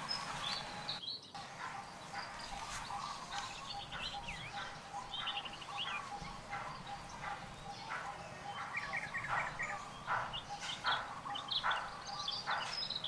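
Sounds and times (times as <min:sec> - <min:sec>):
high chirping calls: 0:00.0 - 0:13.0.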